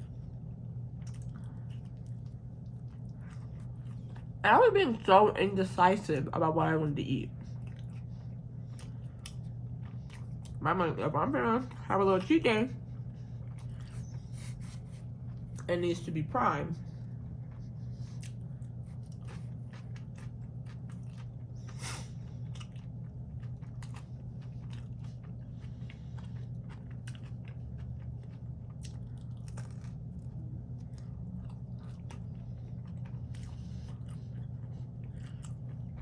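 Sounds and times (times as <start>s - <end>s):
person chewing food: 0.0s - 4.4s, 7.3s - 10.6s, 12.8s - 15.7s, 16.9s - 36.0s
low hum: 0.0s - 36.0s.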